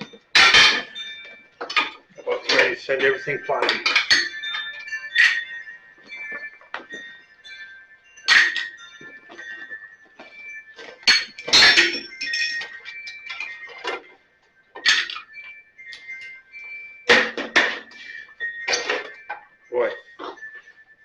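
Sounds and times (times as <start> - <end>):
metallic clanks of tools: 0.0 - 7.1, 8.2 - 14.2, 14.8 - 16.4, 17.1 - 20.6.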